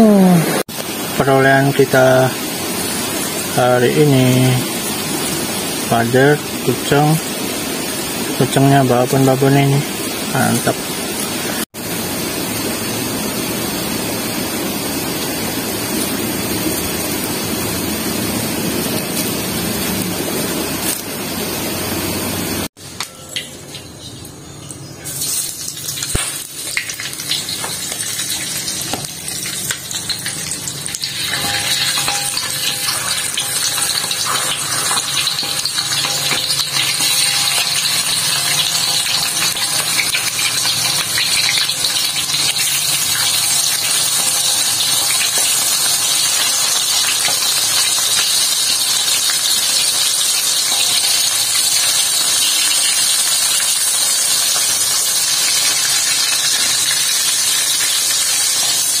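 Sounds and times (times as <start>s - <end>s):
fish sizzling in hot oil: 0.1s - 59.0s.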